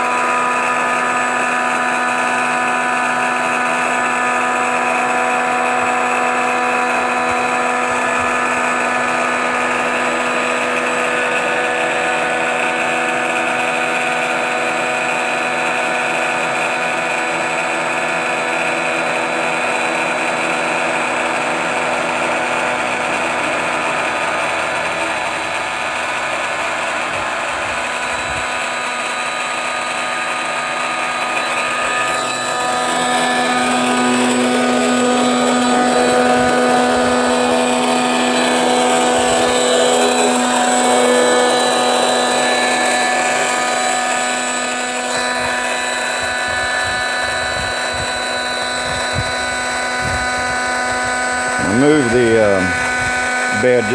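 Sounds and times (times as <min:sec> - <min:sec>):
electric air pump humming: 0:00.0 - 0:53.9.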